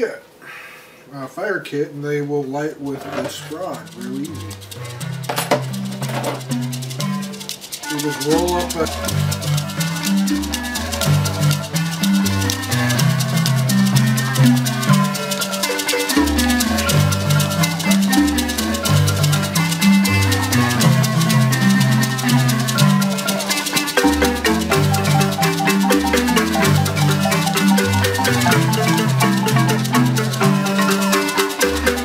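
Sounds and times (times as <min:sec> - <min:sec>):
marimba ensemble playing: 0:03.0 - 0:32.0
shaker ticking: 0:03.1 - 0:32.0.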